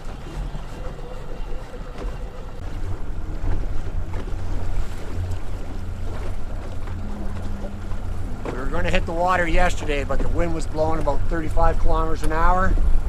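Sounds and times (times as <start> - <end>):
boat motor humming: 0.0 - 13.0
water noise: 0.0 - 13.0
wind buffeting microphone: 0.0 - 13.0.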